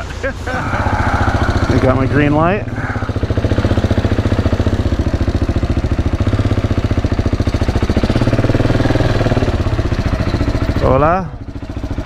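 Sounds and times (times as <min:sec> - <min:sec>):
motorcycle engine thumping: 0:00.0 - 0:12.0.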